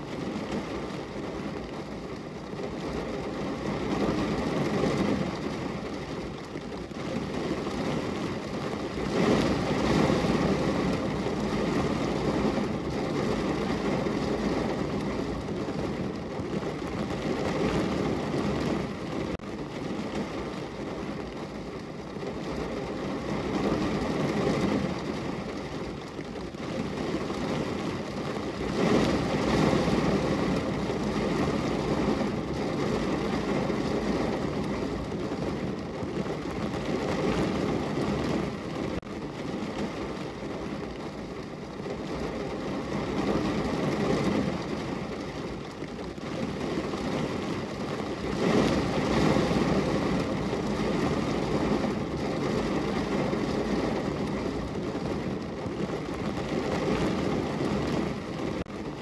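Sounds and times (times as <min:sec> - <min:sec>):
rain pattering on window: 0:00.0 - 0:59.0.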